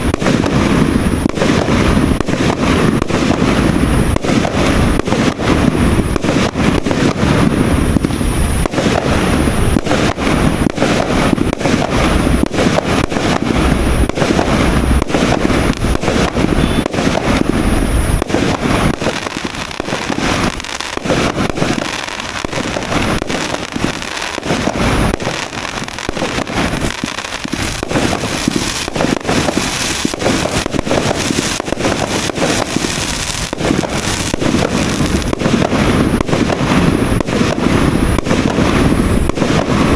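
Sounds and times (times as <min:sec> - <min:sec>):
fireworks launches and bursts: 0:00.0 - 0:39.9.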